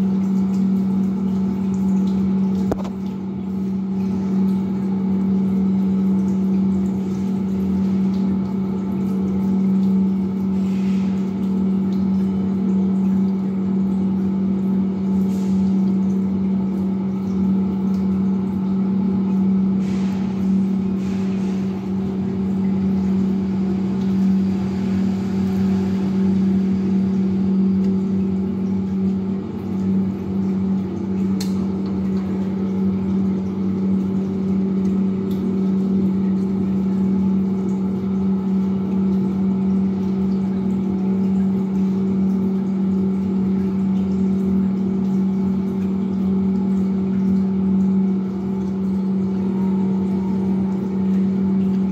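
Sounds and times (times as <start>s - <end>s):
water pump humming: 0.0s - 51.9s.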